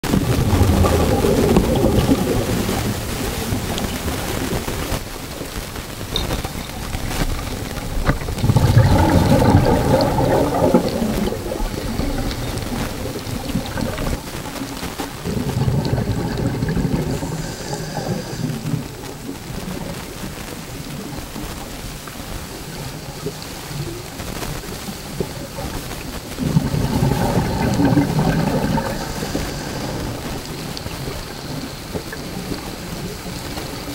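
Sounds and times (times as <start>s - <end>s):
exhaled air bubbling underwater: 0.0s - 33.9s
underwater wash: 0.0s - 33.9s.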